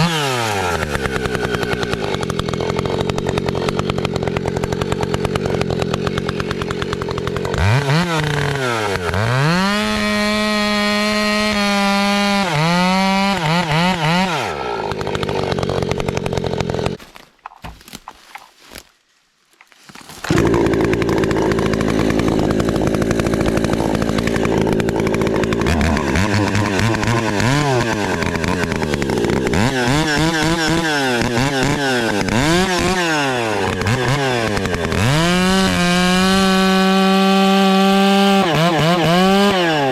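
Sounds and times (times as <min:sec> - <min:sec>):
chainsaw revving: 0:00.0 - 0:17.1, 0:20.1 - 0:39.9.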